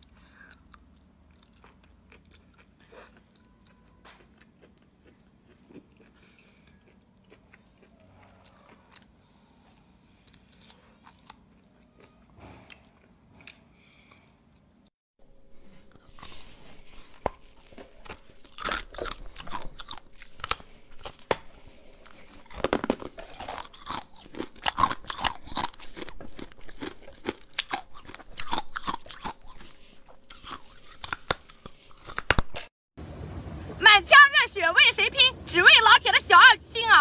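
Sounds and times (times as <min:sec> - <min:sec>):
person chewing crunchy food: 0:00.0 - 0:32.7.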